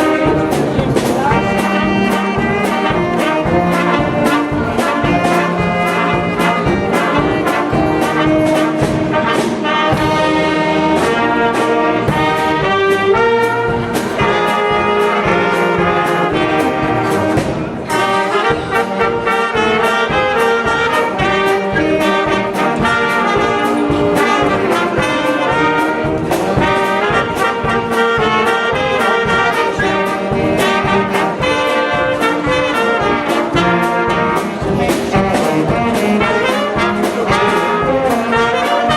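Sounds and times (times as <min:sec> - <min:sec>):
brass band music: 0:00.0 - 0:38.9
steady drum beat: 0:00.0 - 0:38.9.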